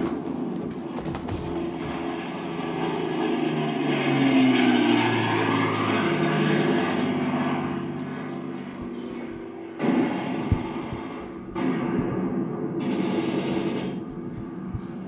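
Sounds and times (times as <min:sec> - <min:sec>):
propeller aircraft drone: 0:00.0 - 0:15.0.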